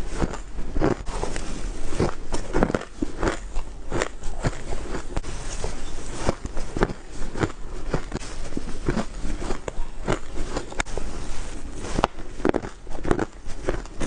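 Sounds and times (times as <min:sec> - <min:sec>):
person crunching ice: 0:00.0 - 0:14.0.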